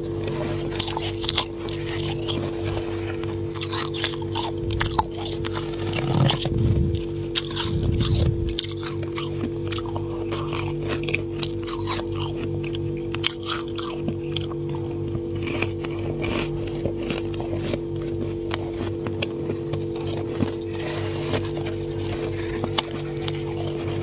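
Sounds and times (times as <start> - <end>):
frost crunching when chewed: 0.0 - 24.0.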